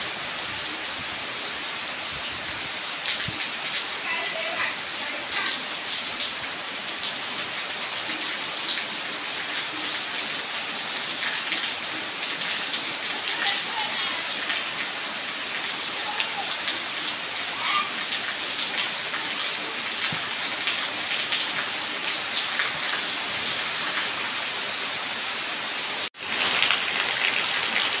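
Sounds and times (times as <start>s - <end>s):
rain pattering on concrete: 0.0s - 28.0s
runoff water pouring onto steps: 0.0s - 28.0s.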